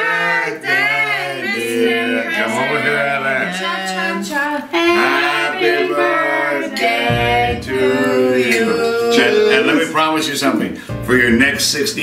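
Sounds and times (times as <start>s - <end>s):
group singing unaccompanied: 0.0s - 10.1s.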